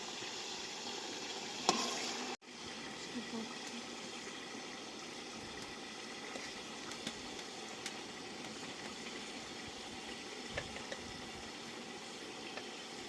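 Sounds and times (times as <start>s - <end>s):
pot of food boiling: 0.0s - 13.0s.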